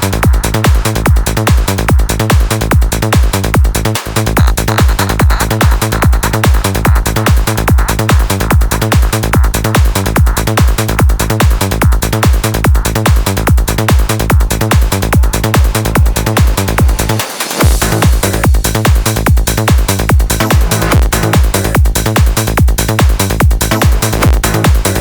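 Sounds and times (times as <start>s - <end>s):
kick drum: 0.0s - 25.0s
rolling bassline: 0.0s - 25.0s
trance music: 0.0s - 25.0s.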